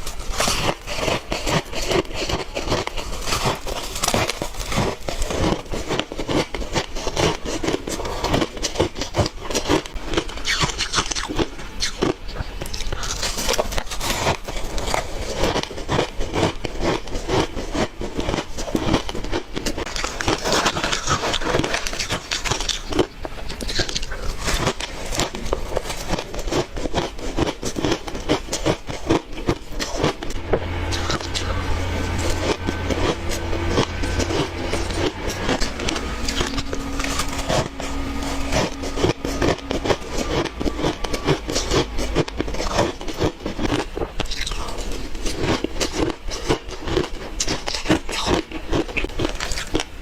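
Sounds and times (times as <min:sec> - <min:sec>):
crunching and chewing ice: 0:00.0 - 0:50.0
steady low hum: 0:00.0 - 0:50.0.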